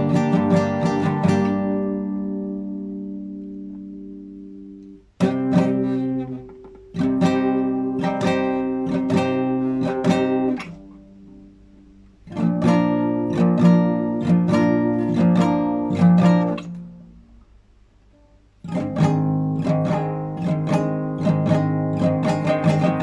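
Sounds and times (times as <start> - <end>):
classical guitar playing: 0.0 - 23.0.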